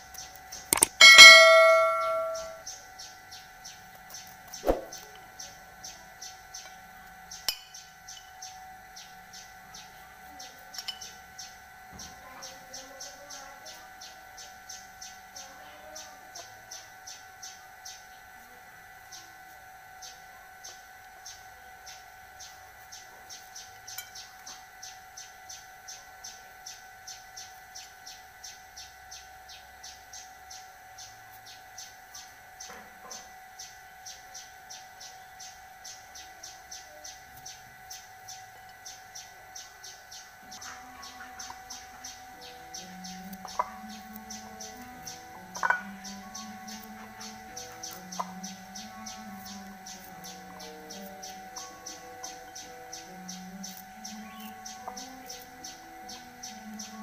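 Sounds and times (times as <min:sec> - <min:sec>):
high-pitched hum: 0:00.0 - 0:57.0
small bird chirping: 0:00.0 - 0:57.0.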